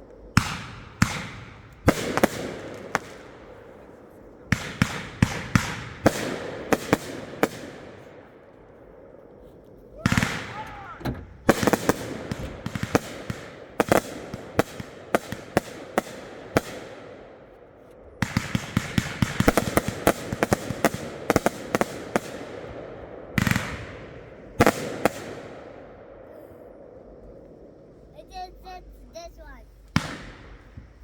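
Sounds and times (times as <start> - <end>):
large echoing firework booms: 0.0 - 9.2, 9.8 - 28.3, 29.9 - 31.0
fireworks bangs and crackle: 0.0 - 31.0.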